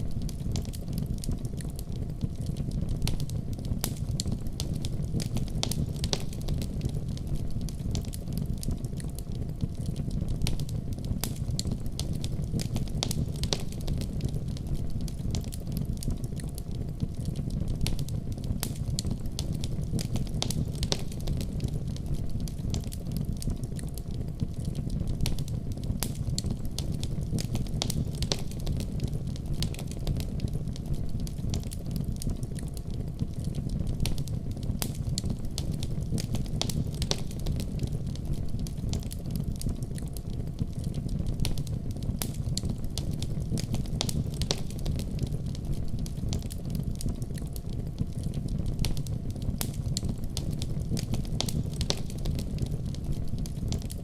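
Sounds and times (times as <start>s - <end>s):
low fire rumble: 0.0s - 54.0s
wood fire crackling: 0.0s - 54.0s.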